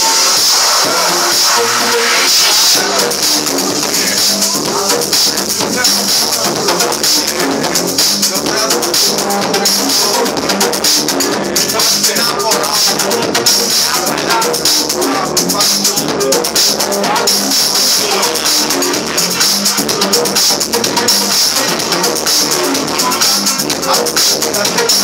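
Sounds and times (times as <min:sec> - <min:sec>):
electronic dance music: 0:00.0 - 0:25.0.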